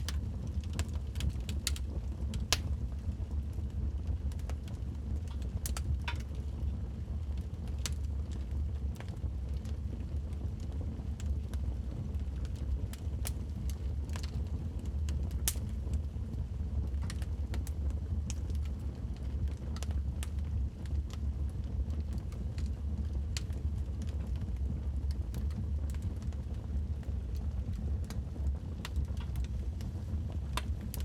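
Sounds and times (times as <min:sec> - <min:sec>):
fire crackling in fireplace: 0:00.0 - 0:31.0.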